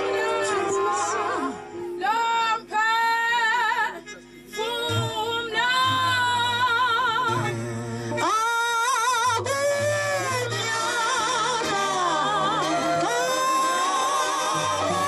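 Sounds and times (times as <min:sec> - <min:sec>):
woman singing gospel solo: 0:00.0 - 0:07.5, 0:08.2 - 0:15.0.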